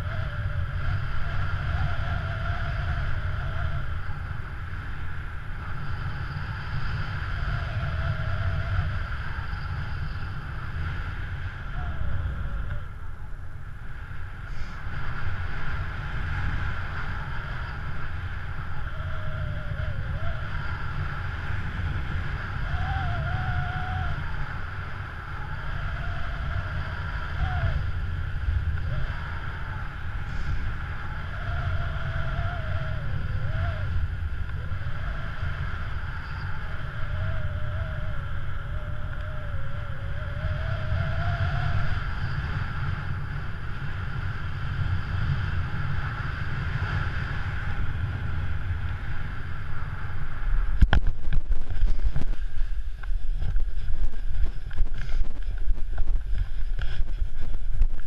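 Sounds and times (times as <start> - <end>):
faint wavering tone: 0.0 - 58.0
wind rushing over microphone: 0.0 - 58.0.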